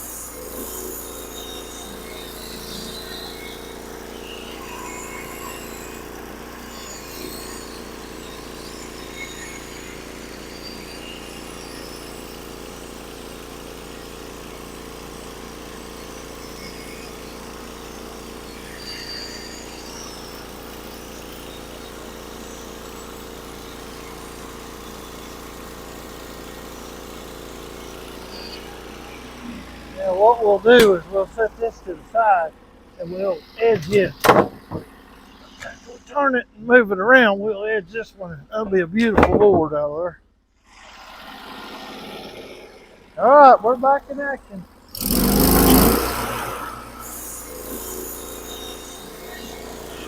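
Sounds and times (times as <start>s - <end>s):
bandsaw cutting log: 0.0s - 36.0s, 40.7s - 50.0s
gasoline engine running: 0.0s - 40.1s, 41.4s - 50.0s.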